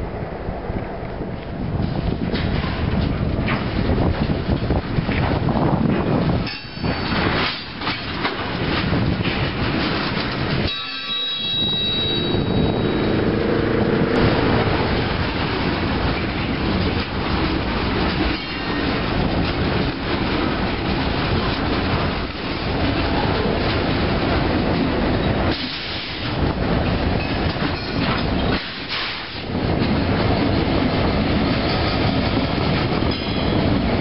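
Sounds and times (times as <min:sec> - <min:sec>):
freight train wheels clacking: 0:01.8 - 0:34.0.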